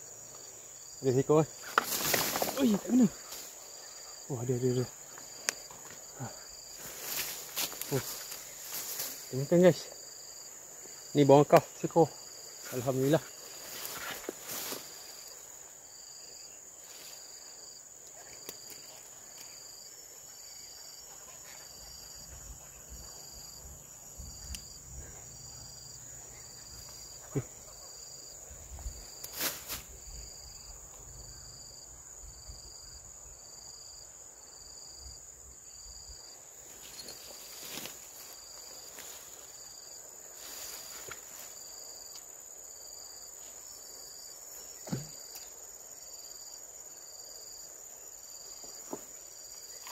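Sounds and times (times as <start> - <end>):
insect chirping in pulses: 0.0 - 49.9.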